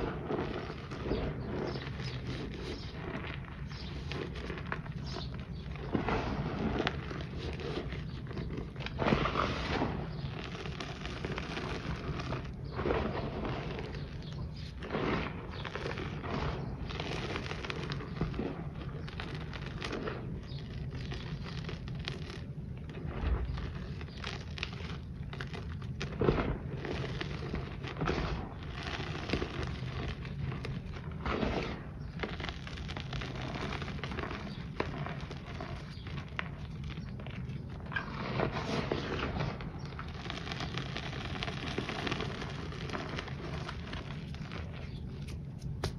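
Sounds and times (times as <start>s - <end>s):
hands crumbling powder: 0.0s - 45.9s.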